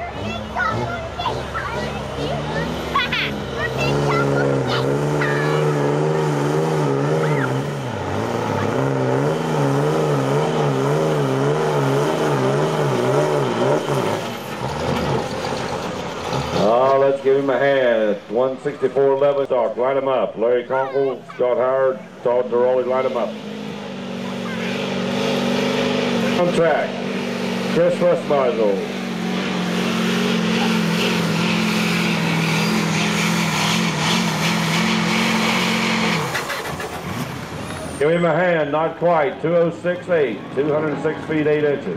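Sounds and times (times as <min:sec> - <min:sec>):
diesel truck engine at high revs: 0:00.0 - 0:41.9.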